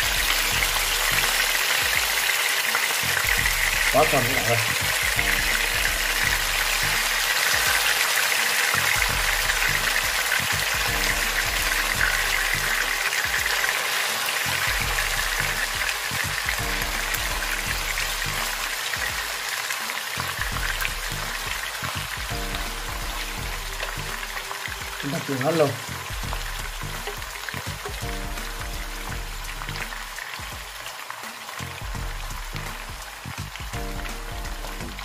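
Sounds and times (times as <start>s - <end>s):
chicken wings sizzling in oil: 0.0s - 35.0s.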